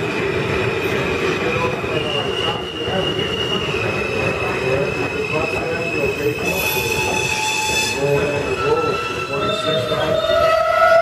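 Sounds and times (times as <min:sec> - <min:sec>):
train wheels squealing: 0:01.4 - 0:11.0.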